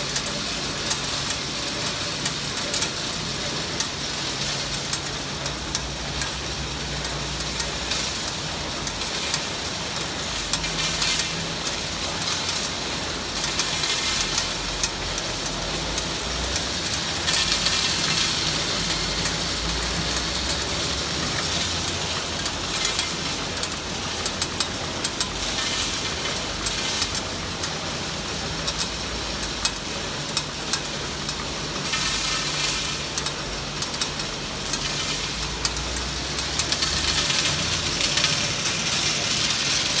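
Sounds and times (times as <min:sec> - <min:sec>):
fast irregular clicks: 0:00.0 - 0:40.0
wrapping machine humming: 0:00.0 - 0:40.0.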